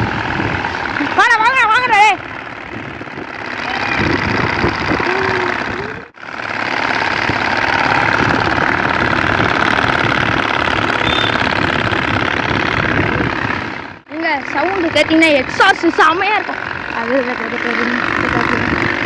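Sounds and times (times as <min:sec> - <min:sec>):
toy exhaust rattling buzz: 0:00.0 - 0:19.0.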